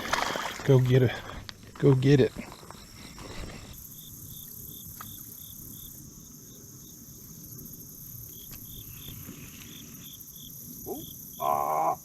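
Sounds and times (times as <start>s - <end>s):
cricket chirping: 0.0s - 12.0s
insects trilling: 0.0s - 12.0s.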